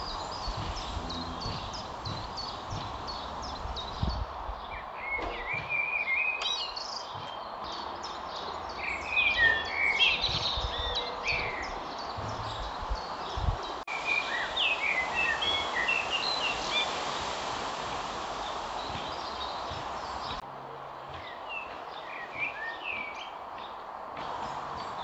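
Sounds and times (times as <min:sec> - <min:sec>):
songbirds chirping and singing: 0:00.0 - 0:20.4, 0:21.0 - 0:25.0
outdoor background hiss: 0:00.0 - 0:25.0.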